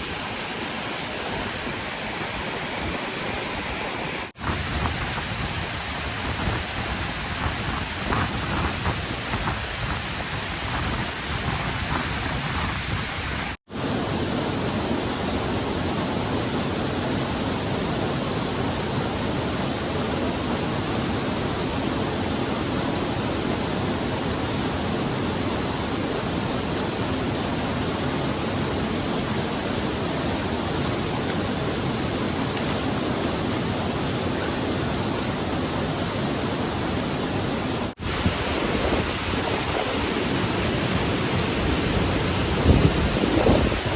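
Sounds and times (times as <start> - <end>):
stream water over rocks: 0.0 - 43.9.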